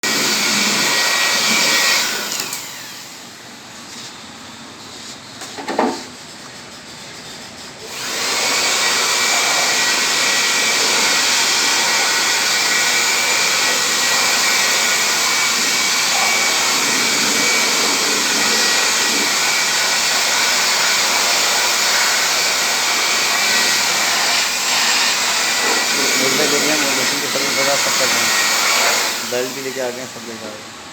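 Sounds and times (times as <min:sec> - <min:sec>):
electric motor machine whooshing: 0:00.0 - 0:03.4, 0:07.8 - 0:30.6.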